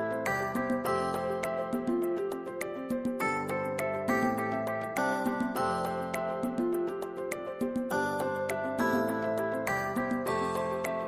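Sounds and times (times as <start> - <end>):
light ticking beat: 0.0 - 11.0.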